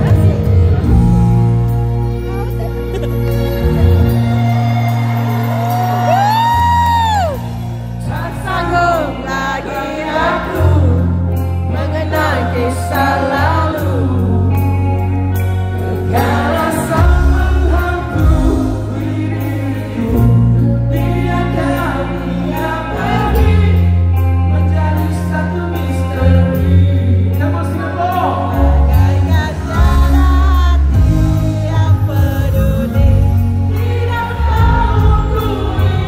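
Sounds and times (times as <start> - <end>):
live band playing a slow song: 0.0 - 36.0
person singing: 0.0 - 36.0.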